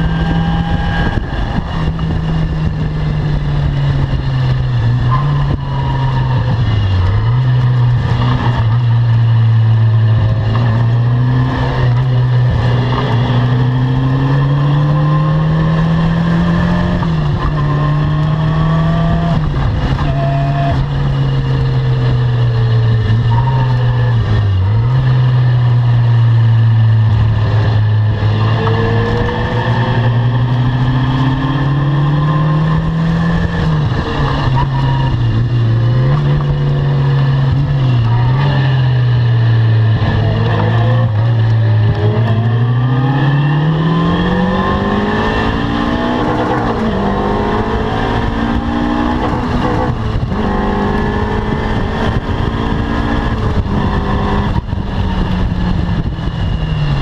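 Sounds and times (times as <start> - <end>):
race car engine revving and shifting: 0.0 - 57.0
wind and road noise: 0.0 - 57.0.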